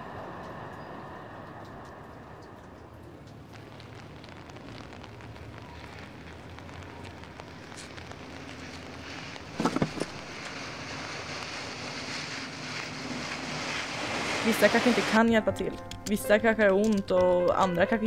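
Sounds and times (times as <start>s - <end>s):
distant traffic hiss: 0.0s - 15.5s.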